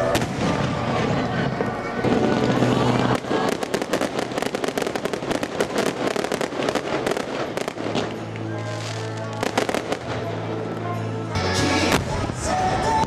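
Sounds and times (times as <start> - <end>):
fireworks banging and crackling: 0.0 - 11.0, 11.7 - 13.0.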